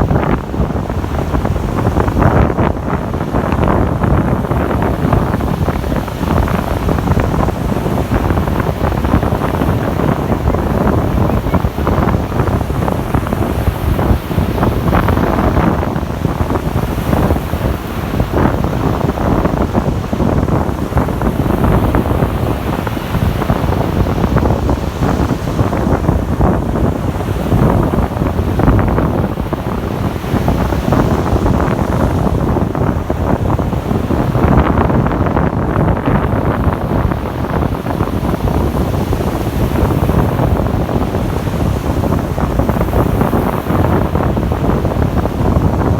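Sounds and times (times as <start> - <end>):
waves washing onto beach: 0.0 - 45.9
wind buffeting microphone: 0.0 - 45.9.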